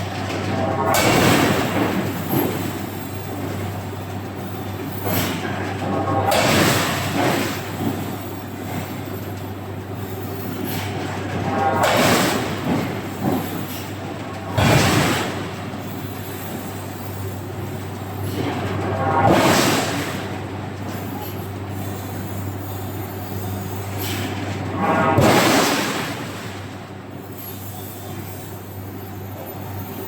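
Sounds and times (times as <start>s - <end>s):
machinery low hum: 0.0s - 30.0s.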